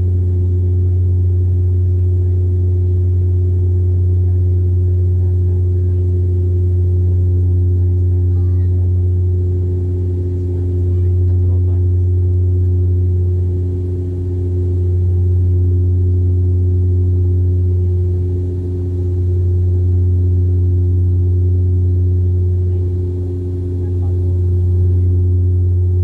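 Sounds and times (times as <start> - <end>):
propeller cabin drone: 0.0 - 26.0.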